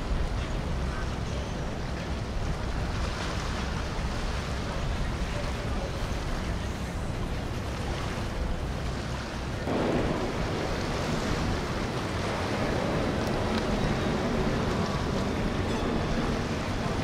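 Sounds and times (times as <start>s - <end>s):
boat engine rumble: 0.0s - 17.0s
water wash: 0.0s - 17.0s
wind buffeting microphone: 0.0s - 17.0s.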